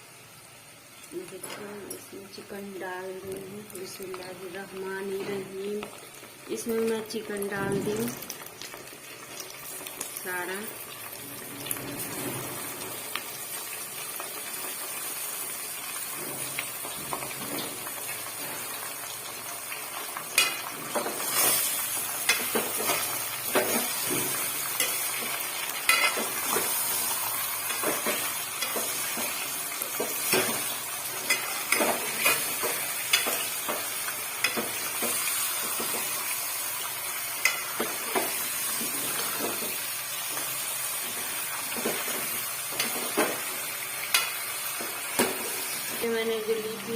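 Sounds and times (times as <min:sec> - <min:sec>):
chicken sizzling in oil: 0:02.1 - 0:46.9.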